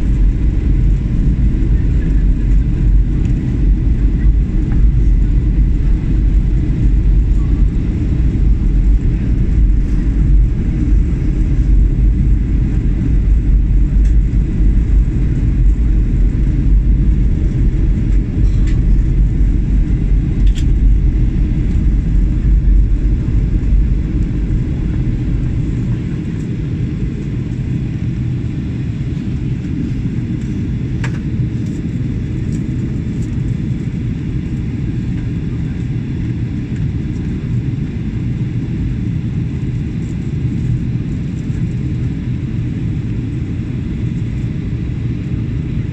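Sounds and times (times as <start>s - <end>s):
jet cabin engine rumble: 0.0s - 45.9s.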